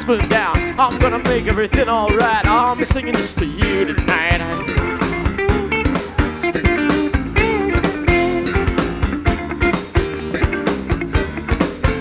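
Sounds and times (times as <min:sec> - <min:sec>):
bass: 0:00.0 - 0:12.0
electric guitar with bent notes: 0:00.0 - 0:12.0
steady drum beat: 0:00.0 - 0:12.0.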